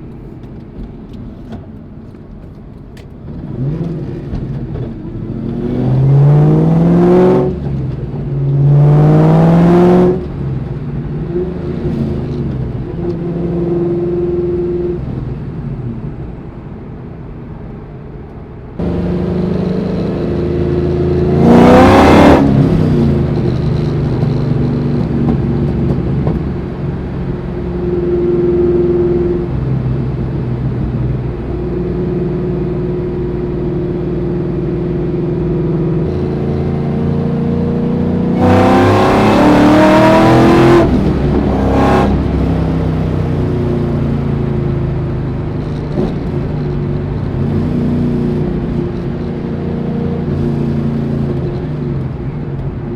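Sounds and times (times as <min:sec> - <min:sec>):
car engine revving: 0:03.2 - 0:15.5, 0:18.7 - 0:52.9.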